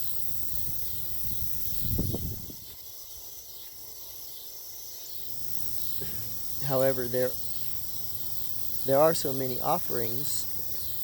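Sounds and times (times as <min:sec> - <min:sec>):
high-pitched insect chirring: 0:00.0 - 0:11.0.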